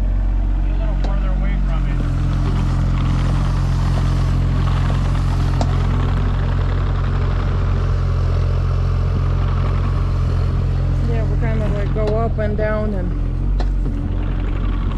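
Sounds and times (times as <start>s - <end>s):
farm machine engine droning: 0.0s - 14.9s
rattle: 1.8s - 12.4s, 13.4s - 14.9s.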